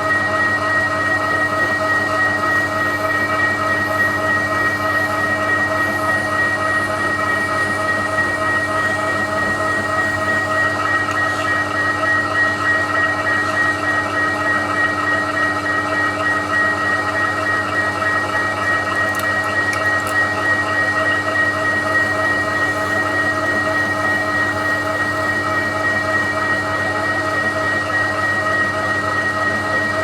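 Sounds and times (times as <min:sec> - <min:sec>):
milling machine whining: 0:00.0 - 0:30.0.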